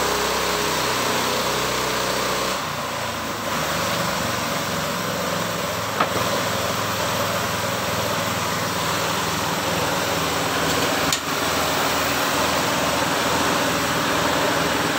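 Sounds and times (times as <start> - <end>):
sawmill engine running: 0.0 - 14.9.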